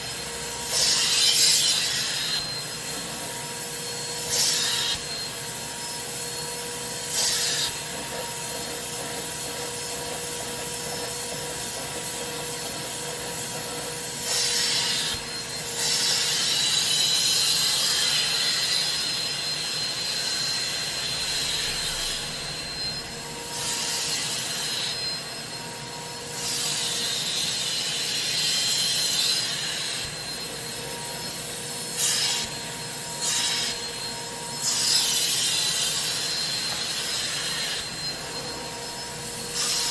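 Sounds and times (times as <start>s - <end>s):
vacuum motor whine: 0.0s - 39.9s.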